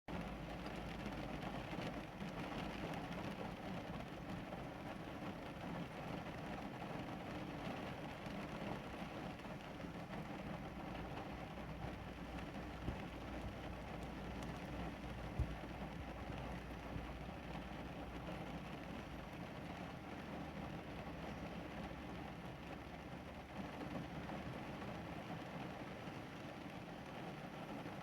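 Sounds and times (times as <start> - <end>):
low constant rumble: 0.1 - 28.0
steady rain: 0.1 - 28.0.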